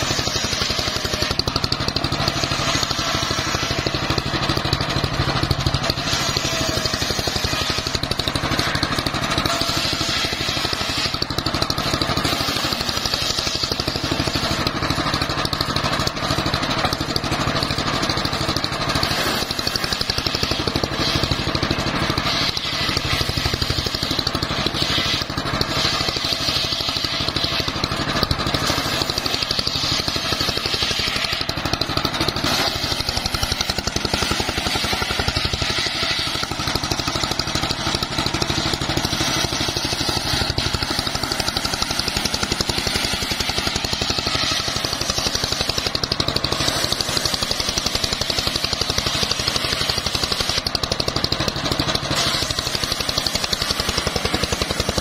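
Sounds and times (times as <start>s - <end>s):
engine hum: 0.0s - 55.0s
saw blade cutting wood: 0.0s - 55.0s.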